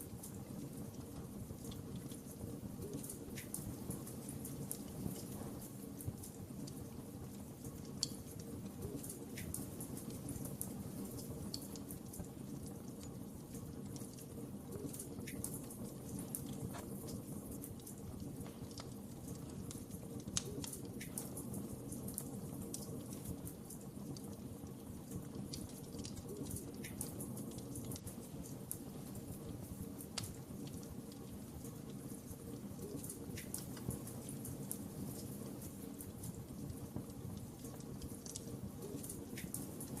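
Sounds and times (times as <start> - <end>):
fire crackling: 0.0 - 40.0
low rumble of flames: 0.0 - 40.0.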